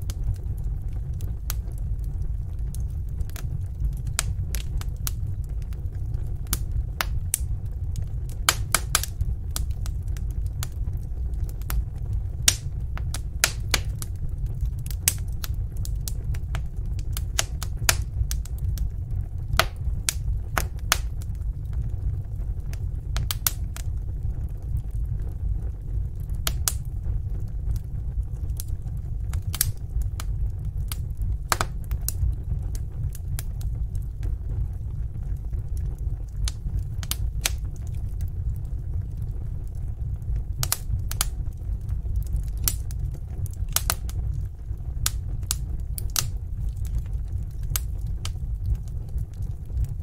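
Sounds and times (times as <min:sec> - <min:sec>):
low rumble of burning fire: 0:00.0 - 0:50.0
wood fire crackling: 0:00.0 - 0:50.0.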